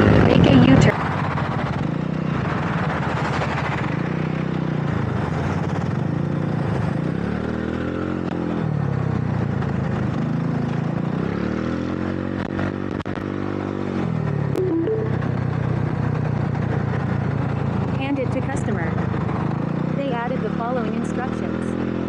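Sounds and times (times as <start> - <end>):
motorcycle engine revving: 0.0 - 14.4, 15.2 - 22.0
wind and road noise: 0.0 - 22.0.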